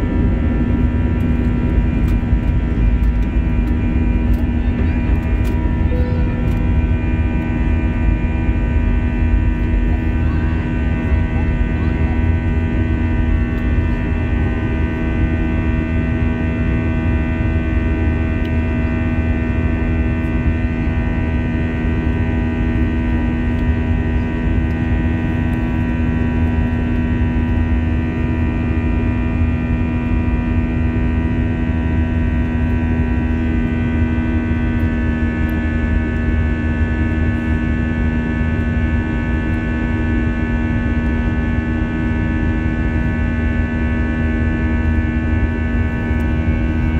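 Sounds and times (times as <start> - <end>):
airliner cabin engine drone: 0.0 - 46.9.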